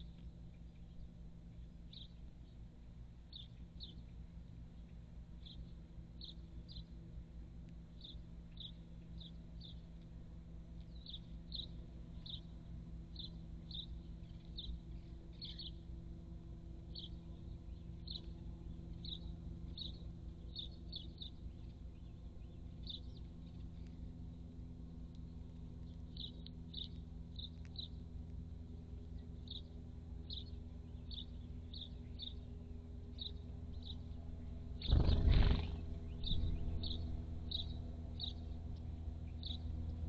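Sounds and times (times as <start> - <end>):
sparrows chirping: 0.0 - 7.0, 7.9 - 10.1, 10.8 - 16.0, 16.8 - 24.5, 25.1 - 40.0
steady low hum: 0.0 - 40.0.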